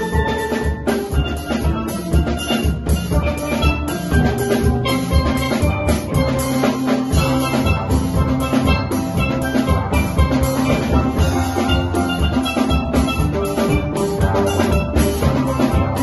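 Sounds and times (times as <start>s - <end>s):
drum kit beat: 0.0s - 16.0s
steel pans playing: 0.0s - 16.0s.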